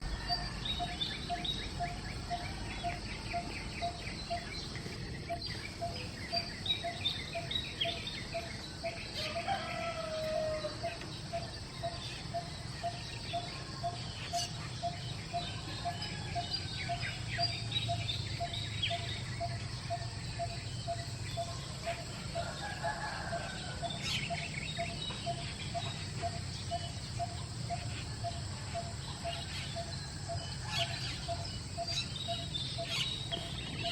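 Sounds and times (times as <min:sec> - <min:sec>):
low bird calls: 0:00.0 - 0:33.9
starlings chattering: 0:00.0 - 0:33.9.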